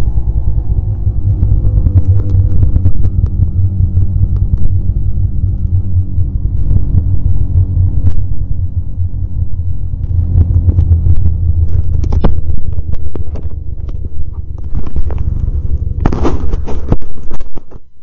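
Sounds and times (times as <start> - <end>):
snowmobile engine rumbling: 0.0 - 17.5.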